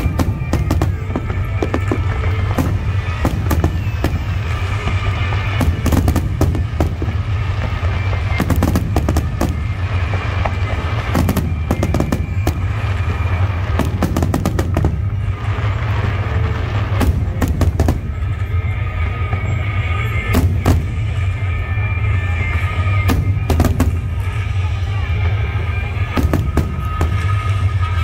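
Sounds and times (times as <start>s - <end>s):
fireworks bangs and crackles: 0.0s - 28.0s
music: 0.0s - 28.0s.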